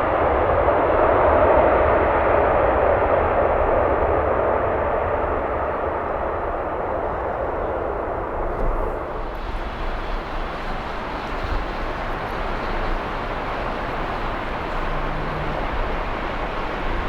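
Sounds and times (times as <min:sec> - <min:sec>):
jet airliner engines rushing: 0:00.0 - 0:17.0.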